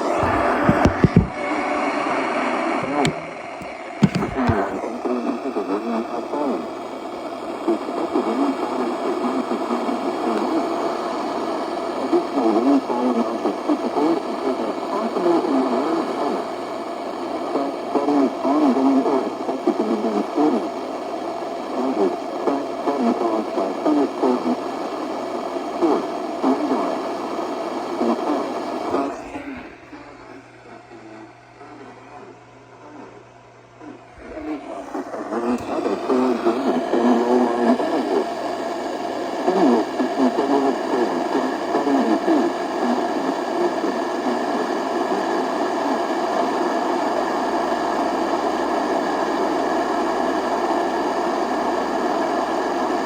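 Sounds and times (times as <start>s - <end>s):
thin voice over radio speaker: 0.0s - 53.0s.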